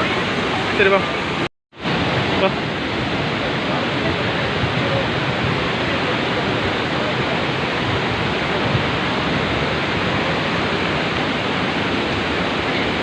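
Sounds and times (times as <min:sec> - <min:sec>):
large waterfall rushing: 0:00.0 - 0:13.0.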